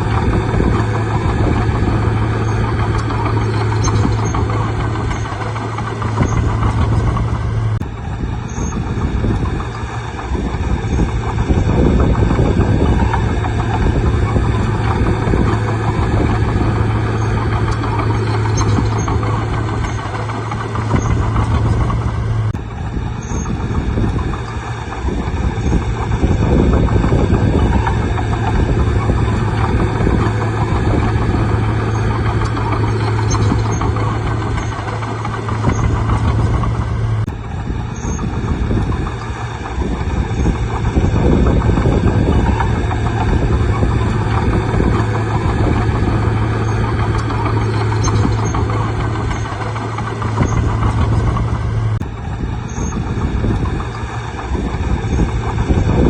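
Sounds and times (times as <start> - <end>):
bulldozer diesel engine droning: 0.0 - 56.0
heavy mechanical noise: 0.0 - 56.0.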